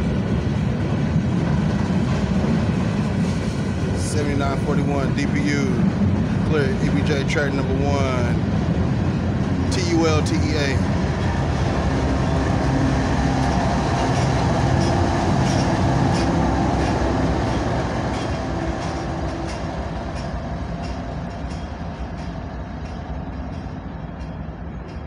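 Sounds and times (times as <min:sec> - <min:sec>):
locomotive diesel engine running: 0:00.0 - 0:24.6
train wheels clicking over rail joints: 0:00.0 - 0:25.0.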